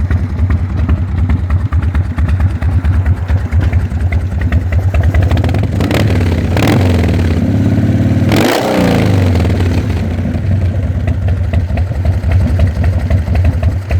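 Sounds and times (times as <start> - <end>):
motorcycle engine revving and idling: 0.0 - 13.9.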